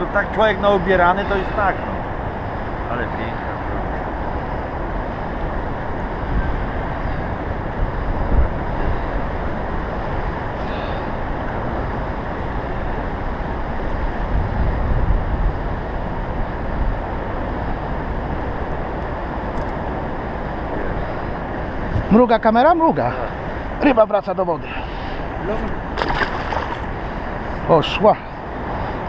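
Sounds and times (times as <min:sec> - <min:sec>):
wind buffeting microphone: 0:00.0 - 0:23.8, 0:24.5 - 0:29.0.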